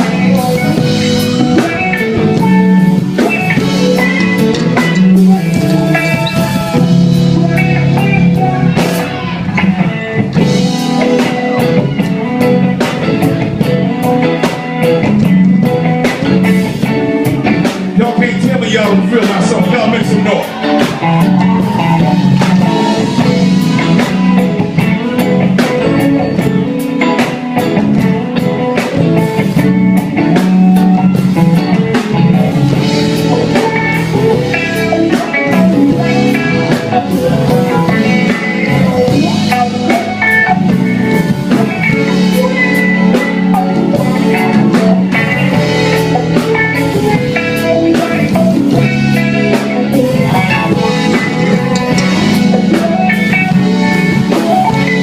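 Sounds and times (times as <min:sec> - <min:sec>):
drum kit beat: 0:00.0 - 0:55.0
guitar: 0:00.0 - 0:55.0
live soul band playing: 0:00.0 - 0:55.0.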